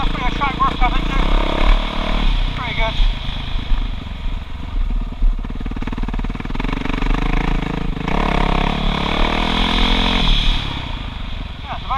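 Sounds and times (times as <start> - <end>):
motocross bike engine accelerating: 0.0 - 11.9.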